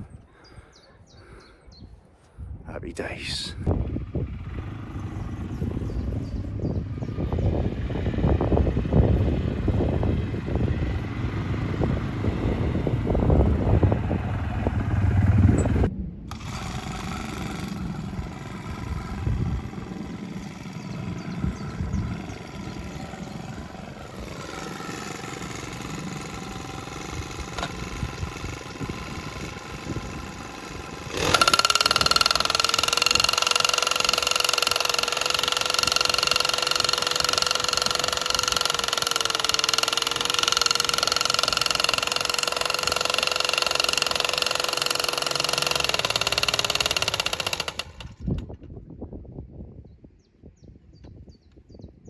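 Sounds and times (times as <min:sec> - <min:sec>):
small petrol engine running: 0:03.7 - 0:48.7.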